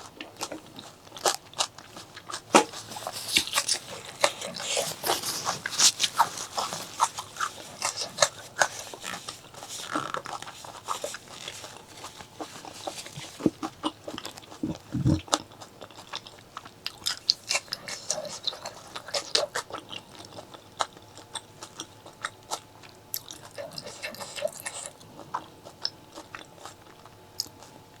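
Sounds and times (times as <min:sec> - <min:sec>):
person chewing food: 0:00.0 - 0:27.8.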